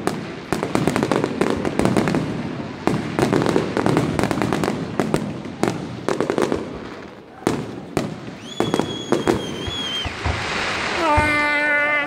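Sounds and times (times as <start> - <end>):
fireworks bangs and crackles: 0.0 - 12.0
fireworks rumble: 0.0 - 12.0.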